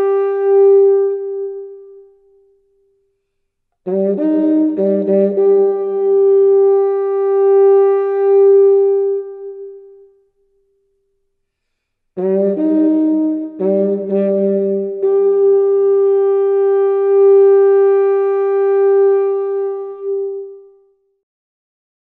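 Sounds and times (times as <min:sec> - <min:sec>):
wind instrument notes: 0:00.0 - 0:02.6, 0:03.8 - 0:10.4, 0:12.2 - 0:21.0.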